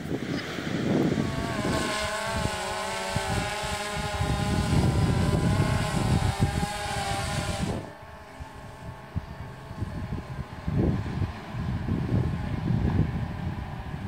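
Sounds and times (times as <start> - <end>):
drone propellers whining: 0.0 - 14.0
wind rumbling on microphone: 0.0 - 14.0.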